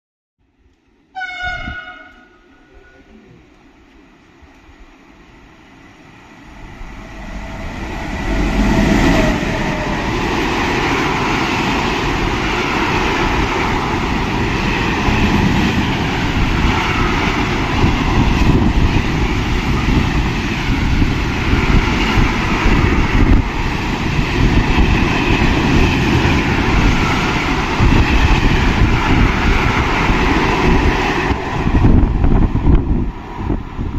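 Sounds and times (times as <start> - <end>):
freight train passing: 0.6 - 33.9.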